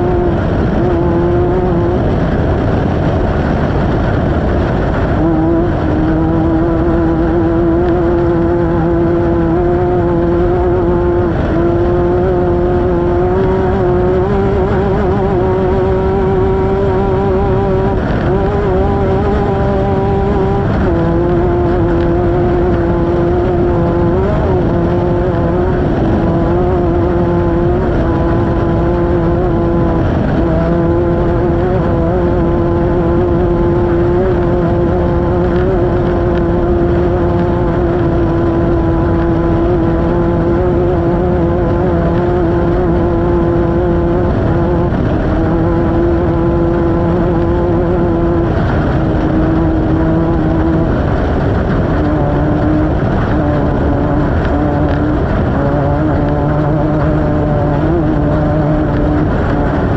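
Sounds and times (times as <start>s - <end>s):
engine at high revs: 0.0s - 59.9s
tyre and wind noise: 0.0s - 59.9s.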